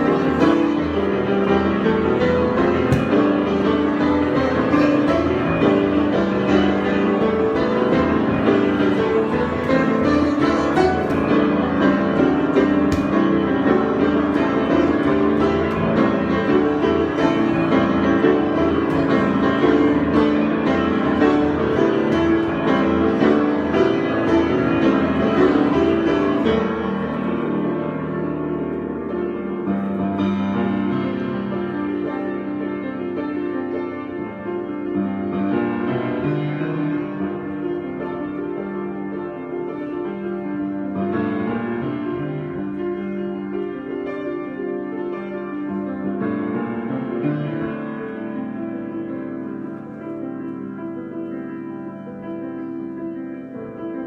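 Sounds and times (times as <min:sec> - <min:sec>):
solo piano improvisation: 0:00.0 - 0:54.0.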